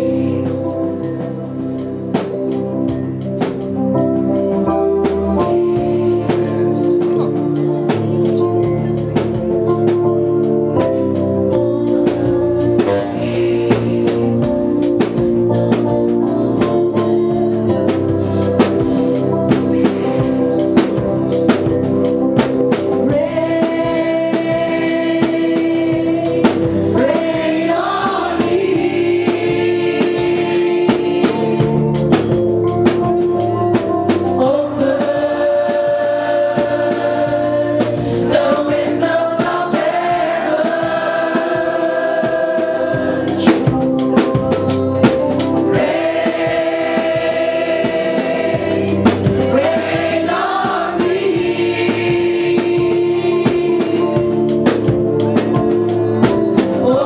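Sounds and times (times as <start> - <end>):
congregation singing: 0.0 - 1.7, 4.7 - 9.4, 12.0 - 15.8, 16.4 - 21.7, 22.4 - 33.0, 34.4 - 55.5.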